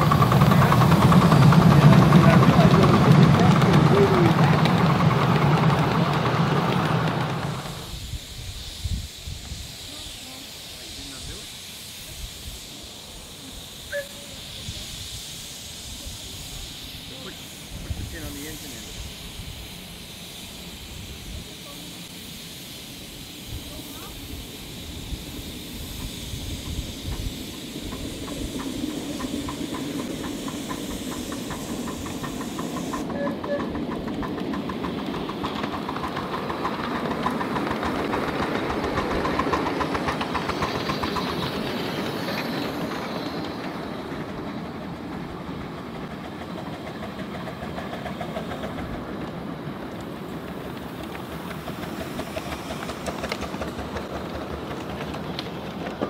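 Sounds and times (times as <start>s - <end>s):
steam locomotive chuffing: 0.0s - 56.0s
wheels clicking on track: 0.0s - 56.0s.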